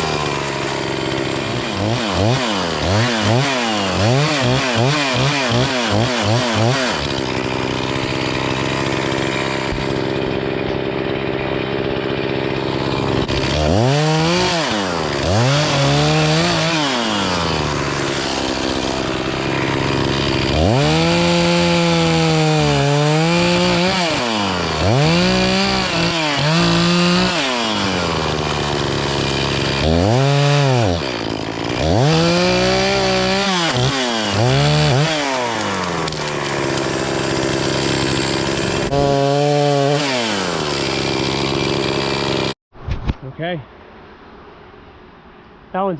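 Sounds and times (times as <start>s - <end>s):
chainsaw cutting logs: 0.0s - 42.6s.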